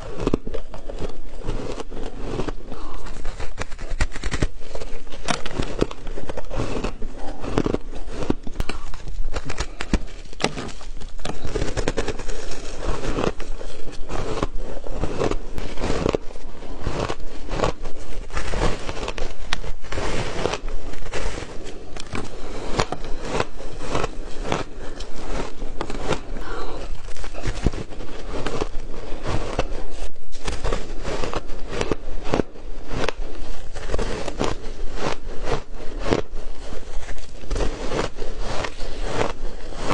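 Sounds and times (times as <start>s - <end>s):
shaved ice being chewed: 0.0s - 39.9s.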